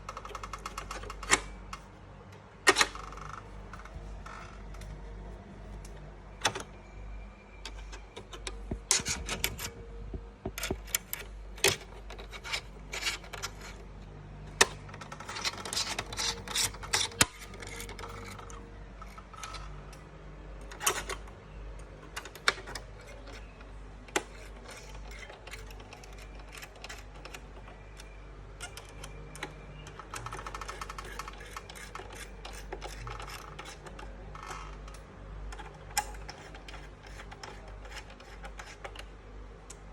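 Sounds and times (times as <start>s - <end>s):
steady low hum: 0.0s - 39.9s
clicks and metallic rattles: 7.6s - 39.9s.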